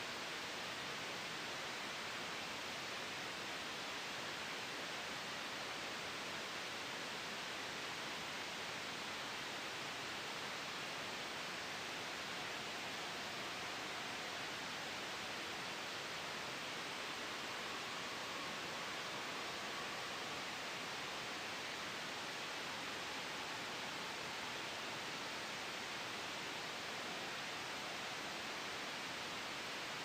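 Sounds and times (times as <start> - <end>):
white noise hiss: 0.0 - 30.0.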